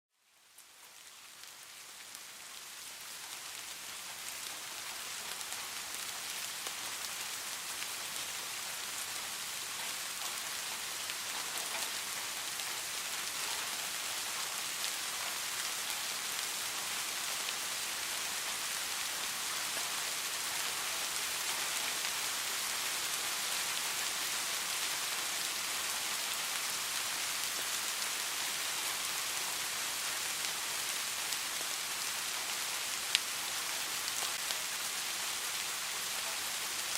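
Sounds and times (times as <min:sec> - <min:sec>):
steady rain falling: 0:00.1 - 0:36.9.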